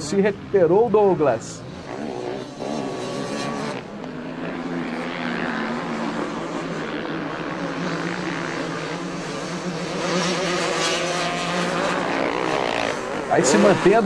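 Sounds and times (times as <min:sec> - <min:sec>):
motocross engines revving: 0:00.0 - 0:14.0.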